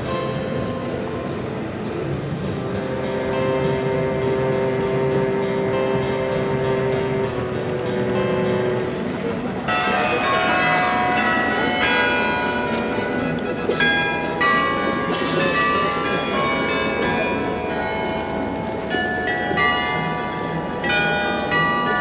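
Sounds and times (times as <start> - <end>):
carillon bells playing a melody: 0.0 - 22.0
street noise: 0.0 - 22.0.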